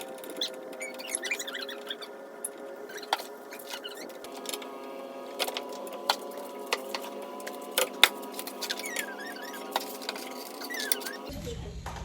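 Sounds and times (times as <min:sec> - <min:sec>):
steady humming drone: 0:00.0 - 0:11.3.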